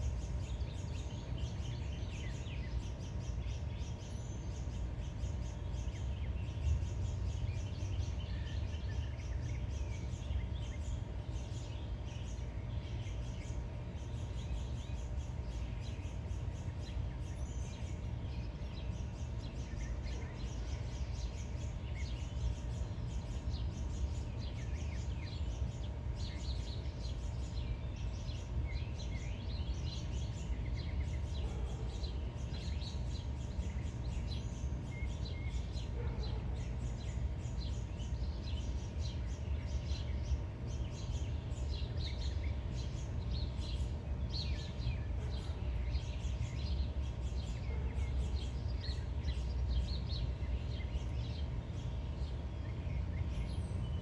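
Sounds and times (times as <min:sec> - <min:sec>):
faint hum: 0:00.0 - 0:54.0
songbirds chirping: 0:00.0 - 0:54.0.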